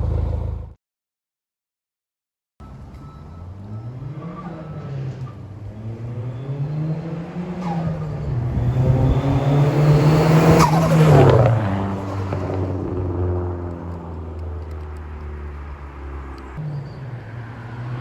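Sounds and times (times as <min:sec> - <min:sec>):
car engine accelerating past: 0:03.5 - 0:18.0.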